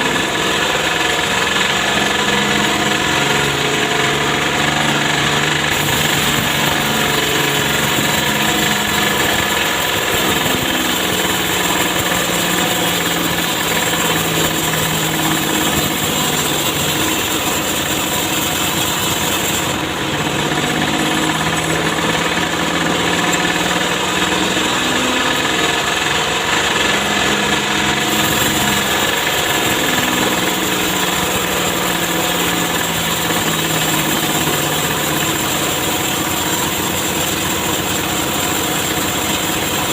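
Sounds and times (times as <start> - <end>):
engine-powered saw running: 0.0 - 39.9.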